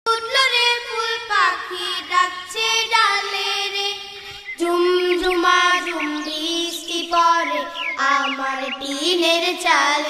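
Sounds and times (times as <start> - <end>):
high voice singing long notes: 0.2 - 10.0.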